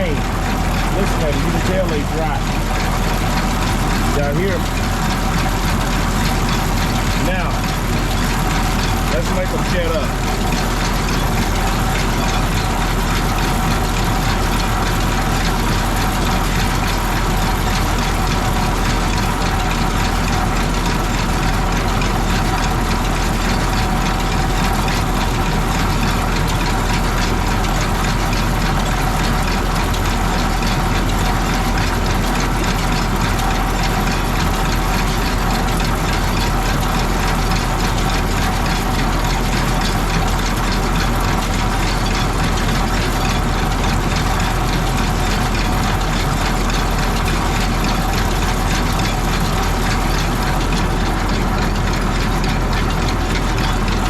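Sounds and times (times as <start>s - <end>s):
baler chains and gears turning: 0.0s - 54.0s
tractor engine running: 0.0s - 54.0s.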